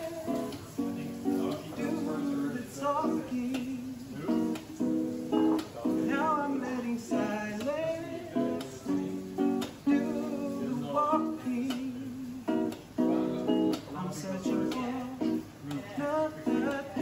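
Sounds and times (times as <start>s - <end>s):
person singing: 0.0s - 4.8s, 5.4s - 17.0s
strummed guitar song: 0.0s - 17.0s.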